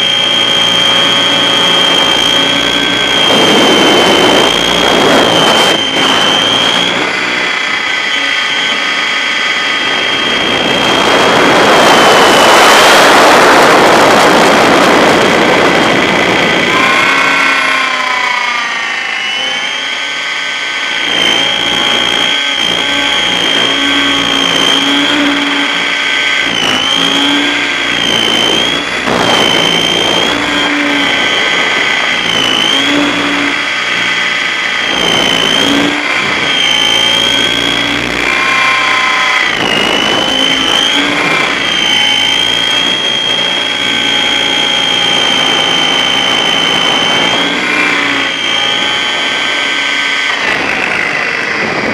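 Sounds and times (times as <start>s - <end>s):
high-pitched motor whine: 0.0s - 51.9s
rushing air: 0.0s - 51.9s.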